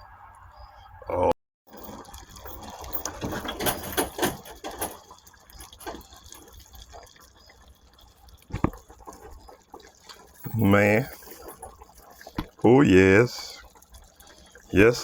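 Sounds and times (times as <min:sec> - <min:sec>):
stew bubbling in pot: 0:01.7 - 0:15.0.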